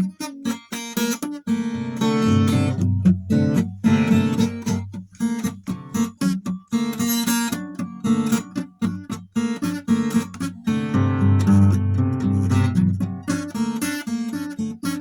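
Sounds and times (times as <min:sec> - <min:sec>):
guitar chords strummed: 0:01.6 - 0:14.5.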